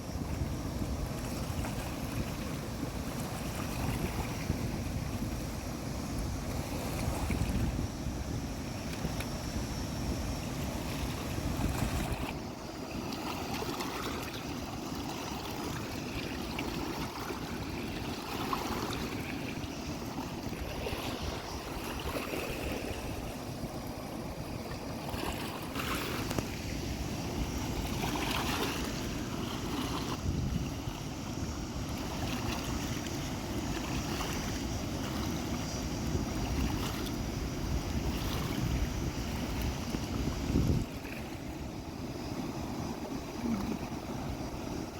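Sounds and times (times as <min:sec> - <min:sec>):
stream water flowing: 0:00.0 - 0:44.9
wind rumbling on microphone: 0:00.0 - 0:44.9.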